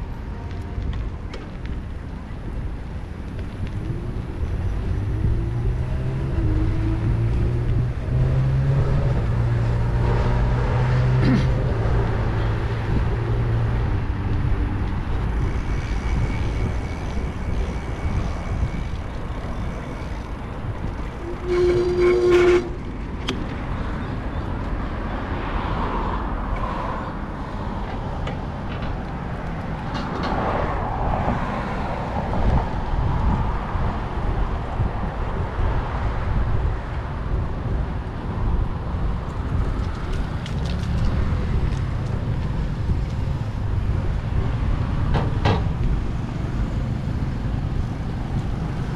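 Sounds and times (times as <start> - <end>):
motor traffic passing: 0.0 - 34.9, 37.3 - 48.9
wind and road noise on microphone: 0.0 - 48.9.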